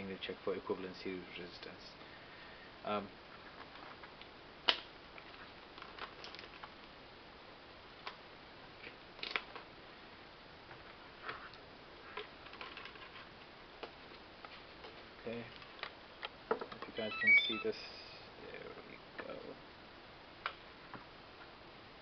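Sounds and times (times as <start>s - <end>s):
faint room background: 0.0s - 22.0s.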